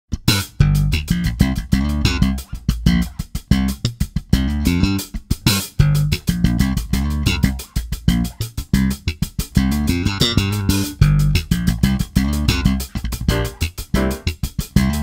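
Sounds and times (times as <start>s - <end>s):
bass guitar: 0.1s - 15.0s
plucked electric guitar groove: 0.1s - 15.0s
steady beat: 0.1s - 15.0s.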